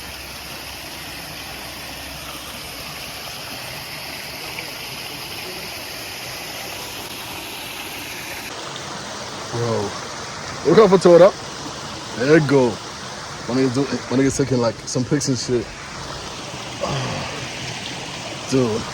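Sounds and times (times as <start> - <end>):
running water rushing: 0.0 - 18.9.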